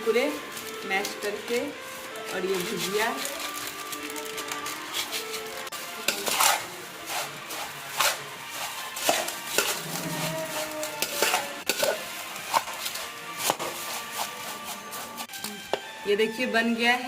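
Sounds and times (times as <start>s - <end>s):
spoon stirring puffed rice in bowl: 0.0s - 15.9s.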